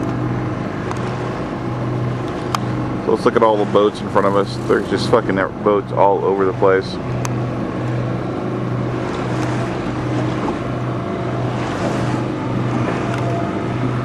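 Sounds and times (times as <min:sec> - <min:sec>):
boat engine humming: 0:00.0 - 0:14.0
water noise: 0:00.0 - 0:14.0
wind: 0:00.0 - 0:14.0.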